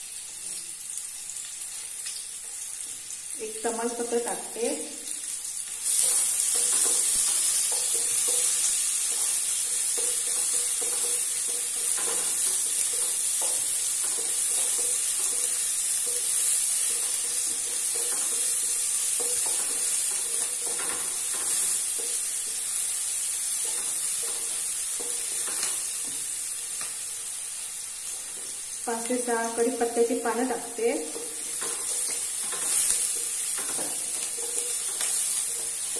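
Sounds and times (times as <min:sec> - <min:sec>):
onion sizzling in oil: 0:00.0 - 0:35.9.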